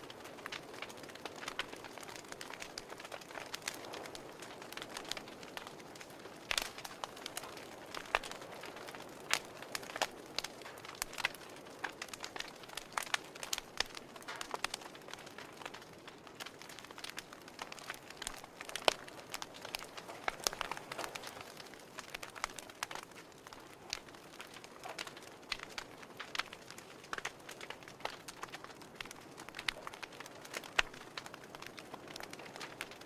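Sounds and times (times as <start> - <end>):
soft steady hiss: 0.0 - 33.0
wood fire crackling: 0.0 - 33.0.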